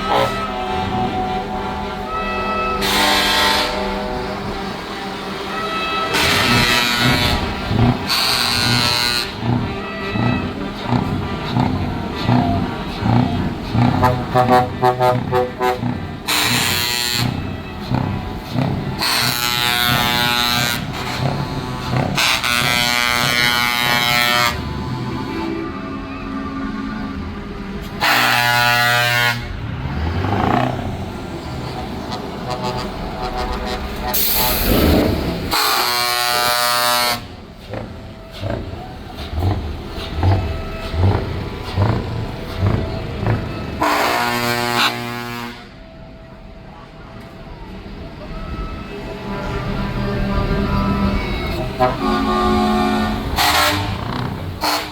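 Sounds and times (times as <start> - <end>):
truck air horn blasts: 0.0 - 46.1, 48.4 - 54.9.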